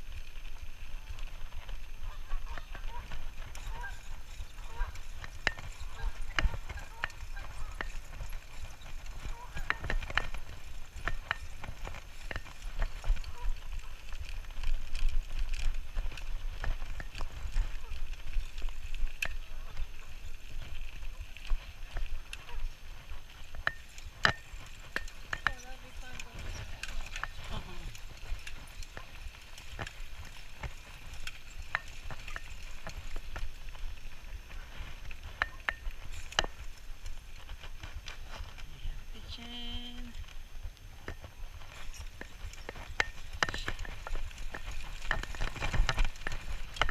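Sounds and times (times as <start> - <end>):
bike clicks and rattles: 0.0 - 38.8, 39.4 - 46.9
bike rolling low rumble: 0.0 - 46.9.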